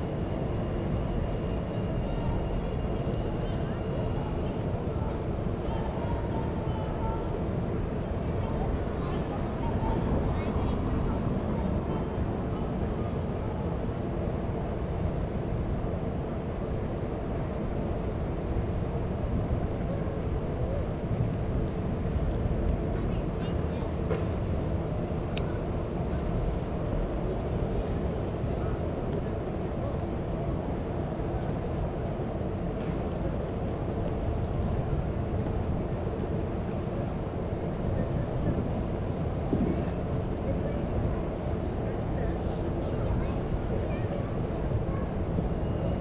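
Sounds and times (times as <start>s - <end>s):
low rumble of city ambience: 0.0s - 46.0s.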